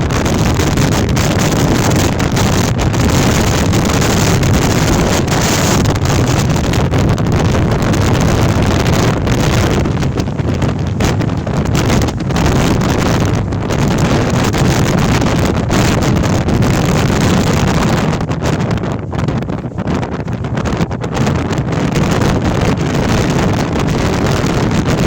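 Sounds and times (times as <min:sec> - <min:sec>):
gale wind buffeting microphone: 0:00.0 - 0:25.0.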